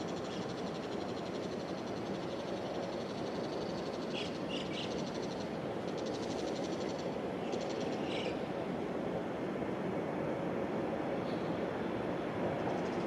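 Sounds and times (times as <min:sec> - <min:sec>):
distant freight train rumble: 0:00.0 - 0:13.0.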